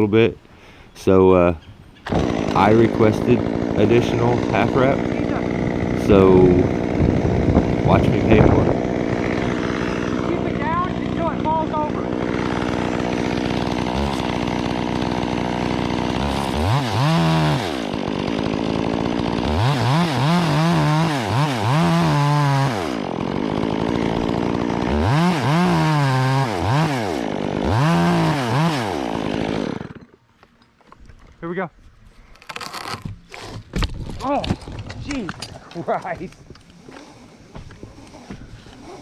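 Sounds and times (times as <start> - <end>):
chainsaw cutting log: 2.0 - 30.2, 32.4 - 39.0.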